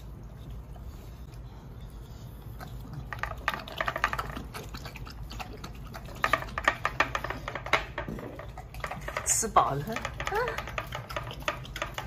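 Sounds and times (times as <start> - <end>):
dog lapping liquid from bowl: 0.0 - 12.0.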